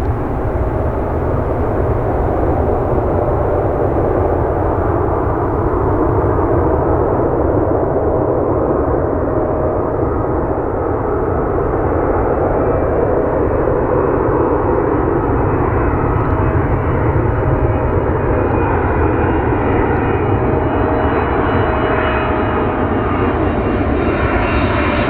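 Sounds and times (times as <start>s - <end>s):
jet engines rumbling: 0.0s - 23.4s
faint engine whine: 0.0s - 25.0s.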